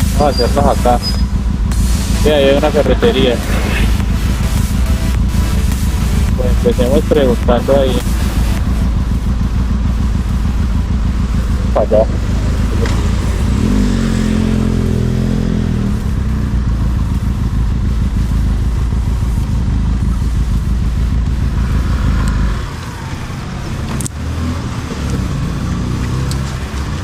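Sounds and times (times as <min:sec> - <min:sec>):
heavy low rumble: 0:00.0 - 0:25.7
motorcycle engine running: 0:00.0 - 0:27.0.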